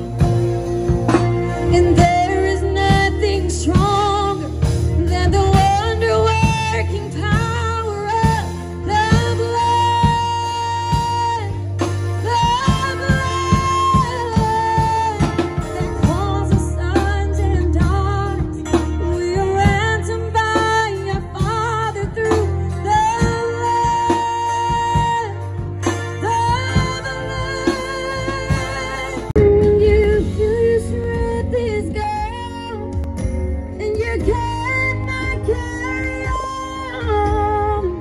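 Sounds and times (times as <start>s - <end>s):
drums: 0.0s - 38.0s
electric bass guitar: 0.0s - 38.0s
keyboard: 0.0s - 38.0s
woman singing into a microphone: 1.5s - 33.1s, 33.7s - 38.0s.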